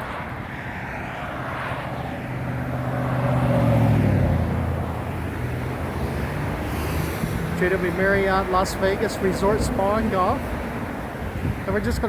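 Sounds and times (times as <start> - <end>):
vehicle engine passing by: 0.0 - 11.0
traffic noise: 0.0 - 12.0.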